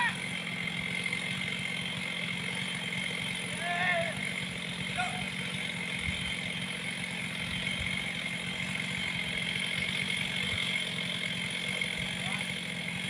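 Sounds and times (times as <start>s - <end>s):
distant chainsaw engine running: 0.0s - 13.0s.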